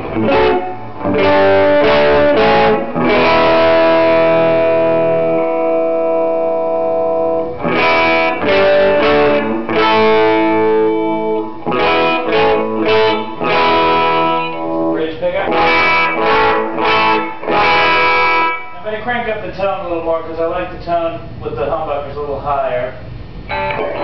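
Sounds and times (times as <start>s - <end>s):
electric guitar strumming chords: 0.0s - 18.8s, 23.4s - 24.0s.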